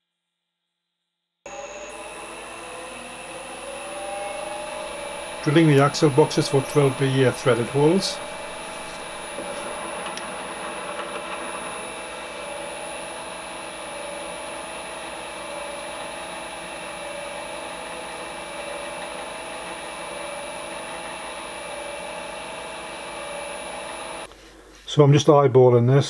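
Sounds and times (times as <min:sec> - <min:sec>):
bench drill high whine: 0:01.5 - 0:24.3.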